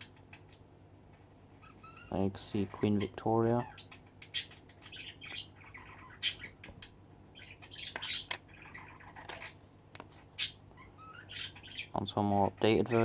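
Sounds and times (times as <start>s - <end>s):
bird chirping: 0.0s - 9.6s, 10.3s - 13.0s.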